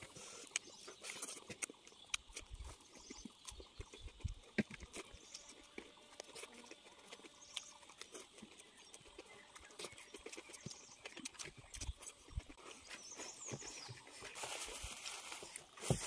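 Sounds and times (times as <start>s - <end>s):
chewing and lip-smacking: 0.0s - 14.2s.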